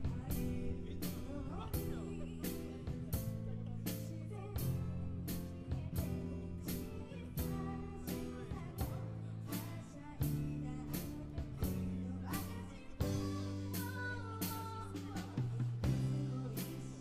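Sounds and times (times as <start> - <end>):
live band with guitar and drums: 0.0 - 17.0.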